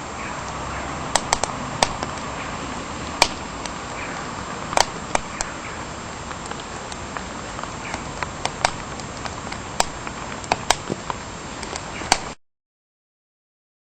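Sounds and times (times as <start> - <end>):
light rain: 0.0 - 12.4
wood fire crackling and popping: 0.4 - 12.4.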